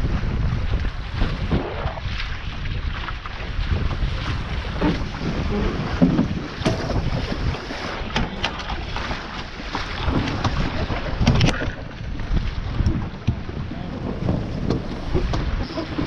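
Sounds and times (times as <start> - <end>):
water rushing past hulls: 0.0 - 16.0
wind buffeting microphone: 0.0 - 16.0.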